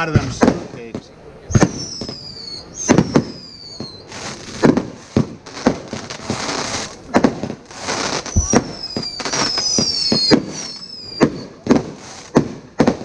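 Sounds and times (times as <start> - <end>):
firework bangs: 0.0 - 13.0
firework hiss: 0.2 - 13.0
falling firework whistles: 1.5 - 13.0.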